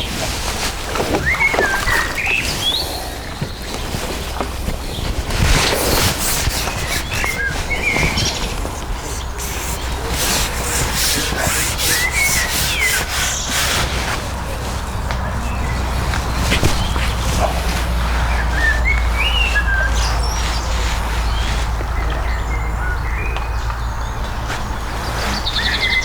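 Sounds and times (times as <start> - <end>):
rustling: 0.0 - 22.8
small birds chirping: 0.0 - 26.0.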